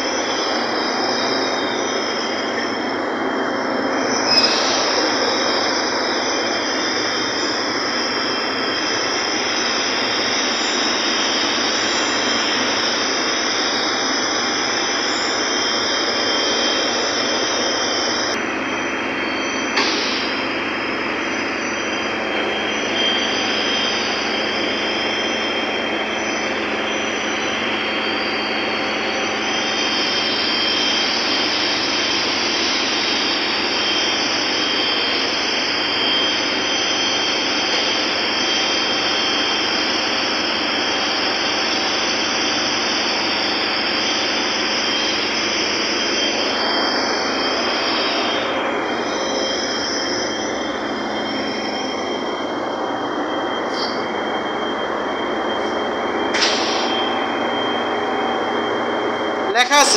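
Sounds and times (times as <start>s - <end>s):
engine-room machinery din: 0.0s - 59.9s.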